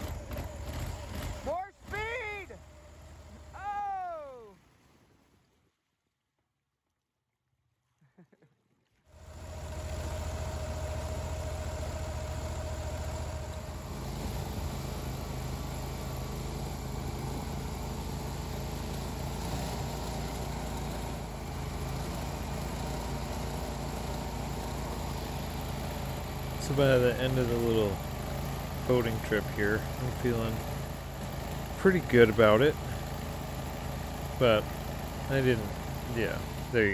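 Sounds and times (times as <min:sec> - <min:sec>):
boat motor running: 0:00.0 - 0:05.2, 0:09.1 - 0:36.9.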